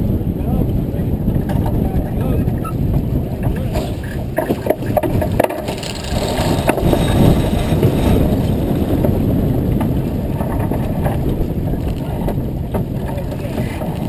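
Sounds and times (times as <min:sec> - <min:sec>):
water rushing along hull: 0:00.0 - 0:14.0
wind buffeting microphone: 0:00.0 - 0:14.0
sharp clicks and knocks: 0:01.3 - 0:14.0.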